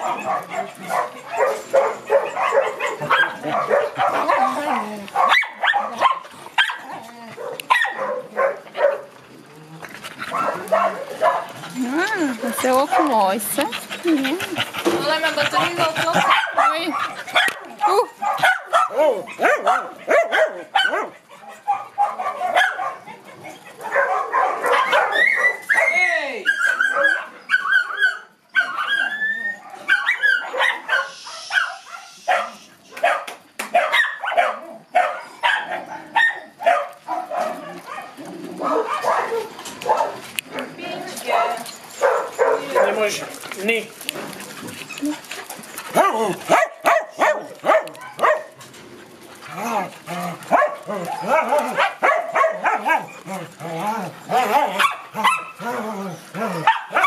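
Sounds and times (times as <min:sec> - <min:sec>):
small dogs barking and yipping: 0:00.0 - 0:09.2, 0:10.1 - 0:57.0.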